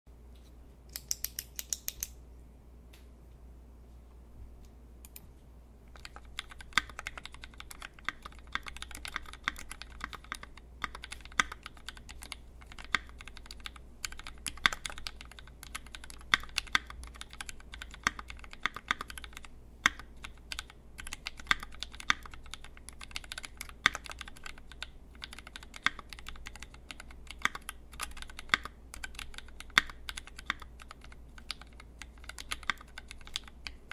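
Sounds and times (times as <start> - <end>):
mechanical keyboard typing: 5.9 - 33.9.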